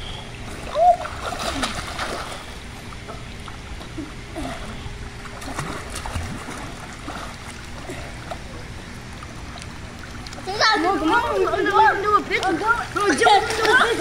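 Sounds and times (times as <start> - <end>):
pool water splashing and lapping: 0.0 - 14.0.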